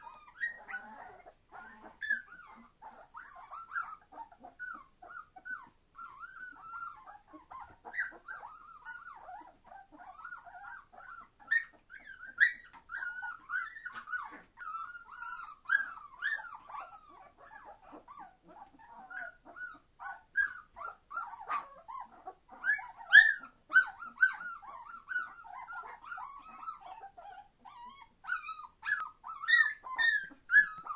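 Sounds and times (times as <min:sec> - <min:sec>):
puppies crying: 0:00.0 - 0:30.9.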